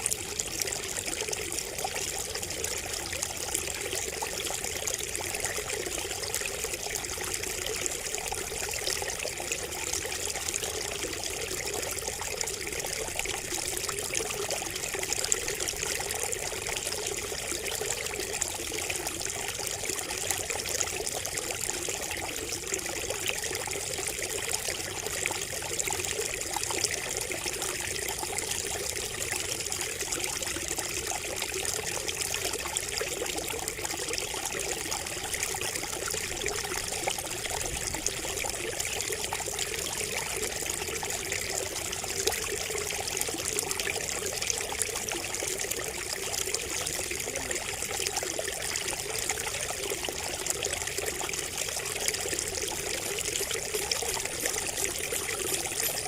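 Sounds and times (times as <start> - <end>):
water trickling from spout: 0.0 - 56.0.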